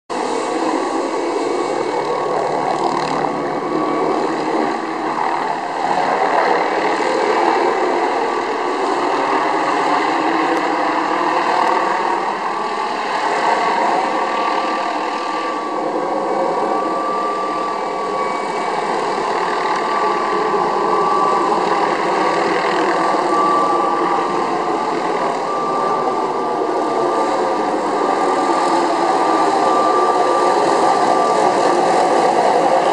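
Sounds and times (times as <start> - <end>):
helicopter rotor and engine: 0.1 - 32.9
steady whine: 0.1 - 32.9.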